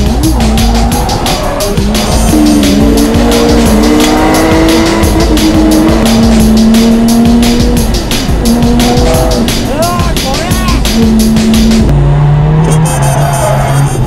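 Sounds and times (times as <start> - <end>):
car tyres squealing: 0.0 - 11.8, 12.4 - 14.0
fast-beat music: 0.0 - 11.9.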